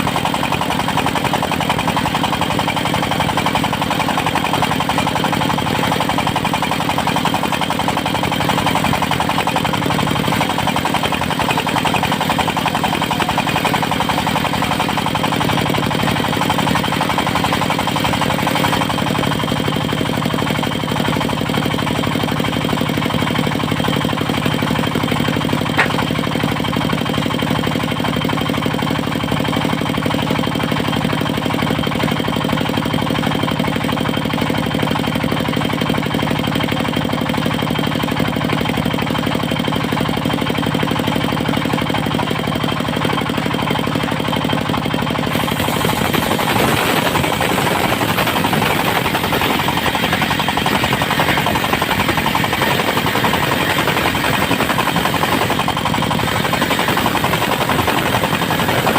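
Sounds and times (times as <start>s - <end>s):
saw mill engine running: 0.0s - 58.9s.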